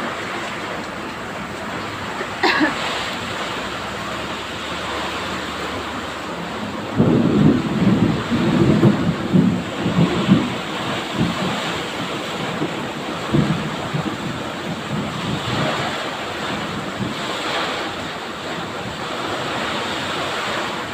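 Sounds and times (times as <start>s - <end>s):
heavy rain pouring: 0.0s - 20.9s
wind gusts buffeting microphone: 0.0s - 20.9s.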